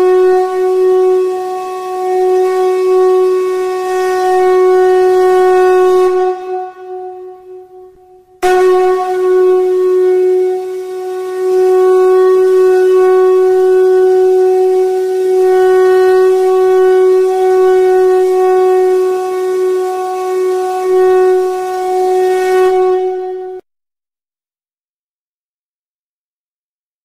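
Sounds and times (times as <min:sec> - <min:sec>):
long held drone note: 0:00.0 - 0:23.6.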